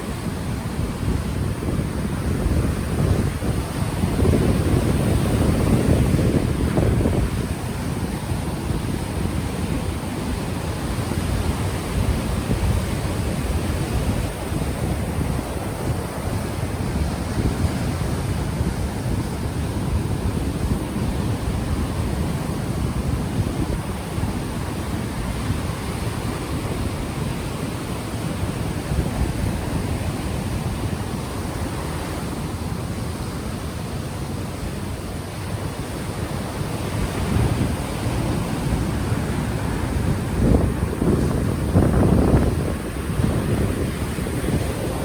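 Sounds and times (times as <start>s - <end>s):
ocean waves on shore: 0.0s - 45.0s
wind buffeting microphone: 0.0s - 45.0s.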